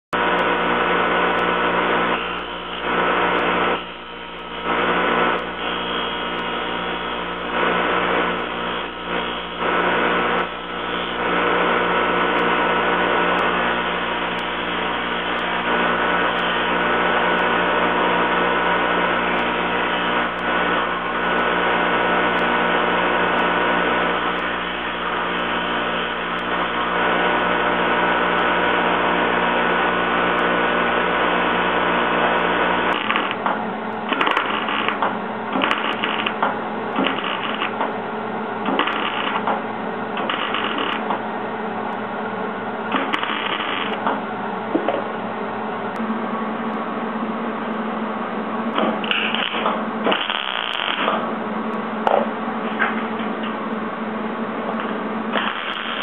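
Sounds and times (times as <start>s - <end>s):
machine motor humming: 0.2s - 56.0s.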